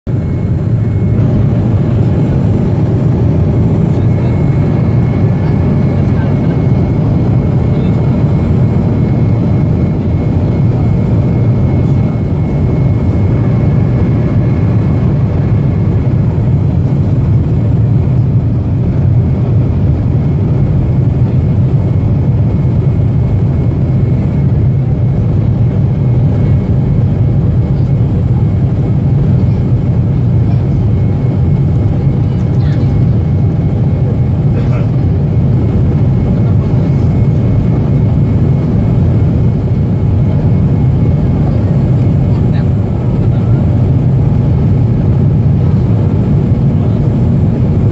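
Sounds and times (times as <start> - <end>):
airliner cabin drone: 0.1 - 47.9.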